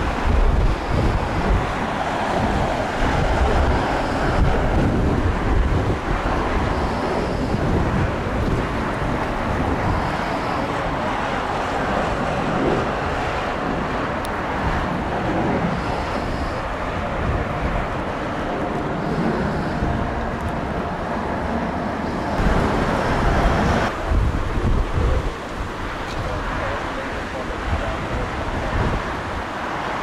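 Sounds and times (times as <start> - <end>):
jet engines rumbling: 0.0 - 30.0
wind buffeting microphone: 0.0 - 30.0.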